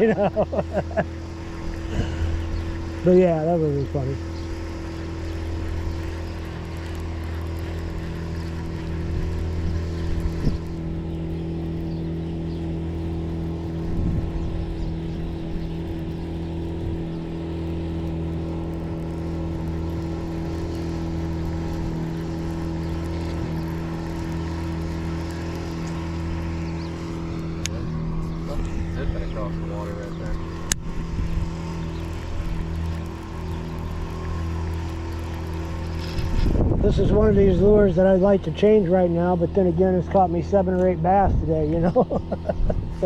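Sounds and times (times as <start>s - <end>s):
motor humming: 0.0s - 43.0s.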